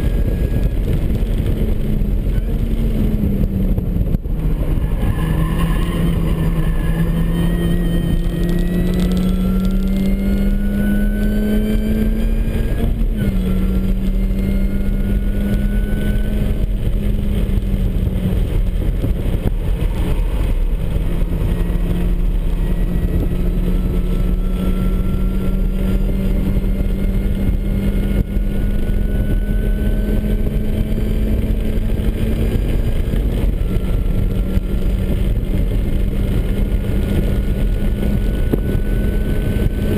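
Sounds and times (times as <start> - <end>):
tyre and wind noise: 0.0 - 39.9.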